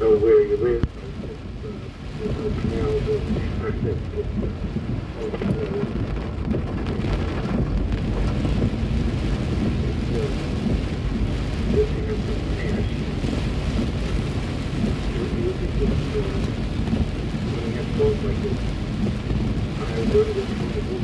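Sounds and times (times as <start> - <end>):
heavy rain on car roof: 0.0 - 21.0
low car rumble: 0.0 - 21.0.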